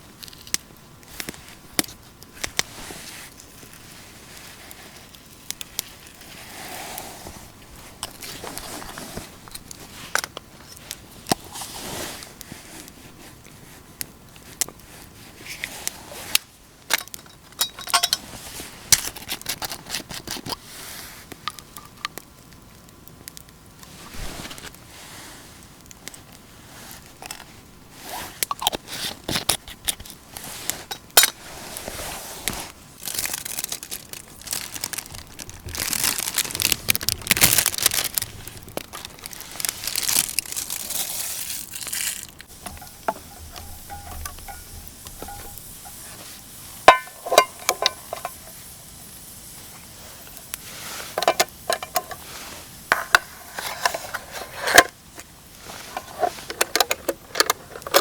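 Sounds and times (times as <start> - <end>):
camping gear rustling: 0.0 - 22.1, 23.8 - 58.0.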